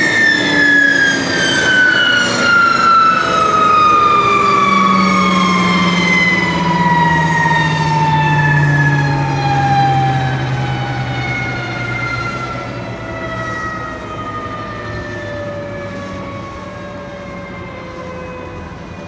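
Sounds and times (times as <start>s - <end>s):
turboprop engine winding down: 0.0s - 19.0s.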